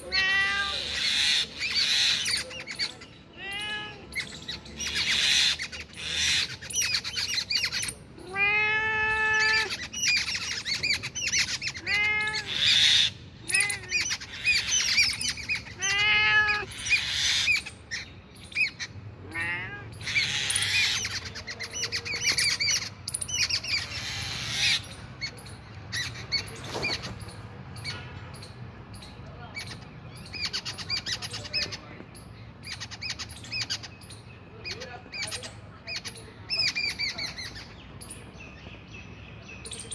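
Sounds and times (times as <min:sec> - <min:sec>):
drawn-out bird calls: 0:00.0 - 0:38.3
small birds chirping: 0:00.0 - 0:39.9.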